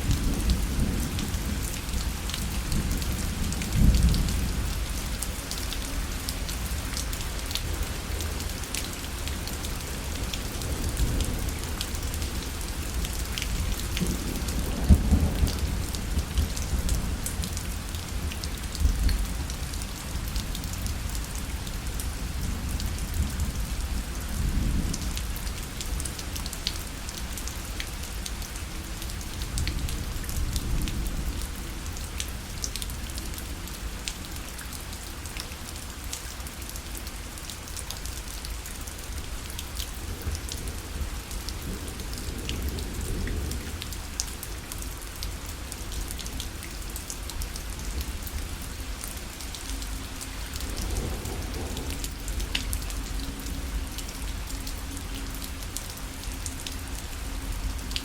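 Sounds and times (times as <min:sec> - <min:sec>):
rain pattering on a parasol: 0:00.0 - 0:58.0.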